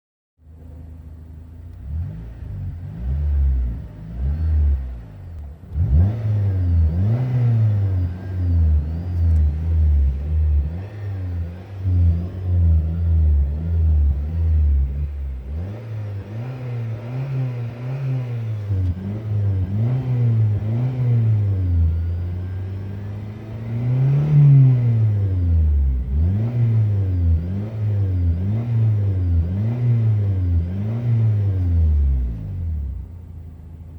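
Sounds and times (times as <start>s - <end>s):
car engine revving: 0.6s - 33.9s.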